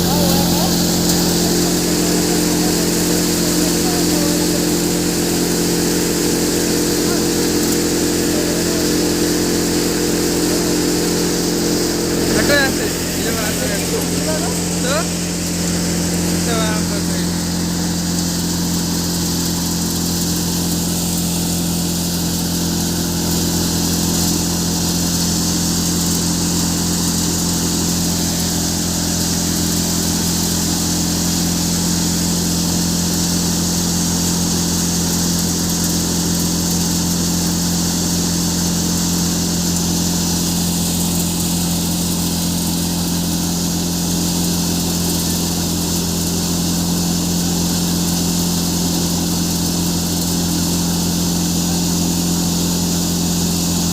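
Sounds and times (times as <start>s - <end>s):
engine hum: 0.0s - 53.9s.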